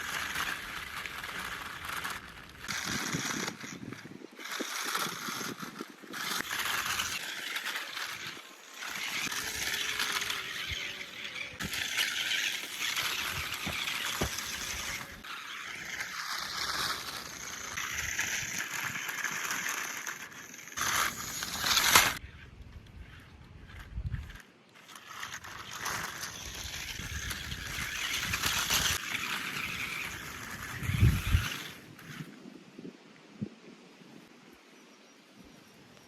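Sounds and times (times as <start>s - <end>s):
toy truck body rattling: 0.0s - 22.2s, 23.0s - 31.8s
short motor whines: 0.0s - 32.4s
toy truck tyres crunching: 0.0s - 32.4s.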